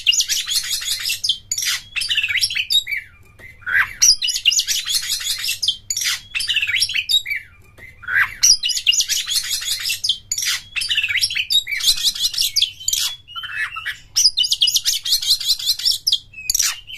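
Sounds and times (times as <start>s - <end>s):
songbird trilling and chirping: 0.0s - 16.9s.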